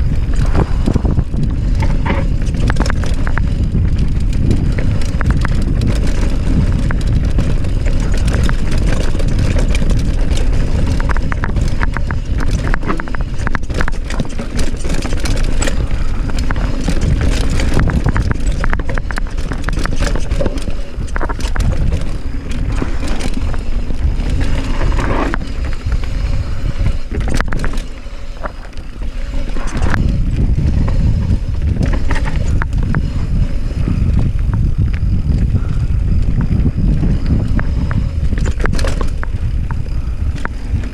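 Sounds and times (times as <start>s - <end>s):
bike tyres rattling over stones: 0.0s - 40.9s
wind buffeting microphone: 0.0s - 40.9s.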